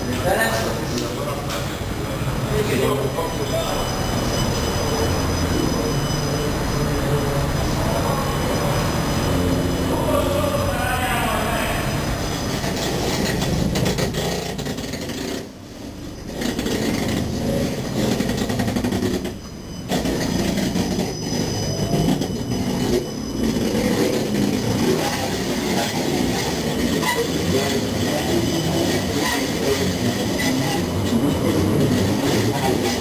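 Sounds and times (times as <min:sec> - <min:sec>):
tram wheels rumbling on rail: 0:00.0 - 0:33.0.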